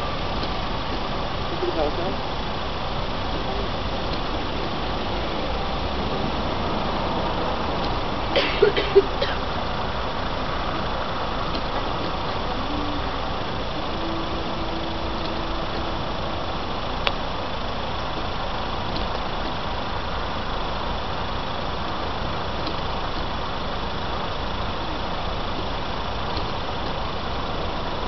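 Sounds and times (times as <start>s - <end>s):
road vehicles idling: 0.0s - 28.0s.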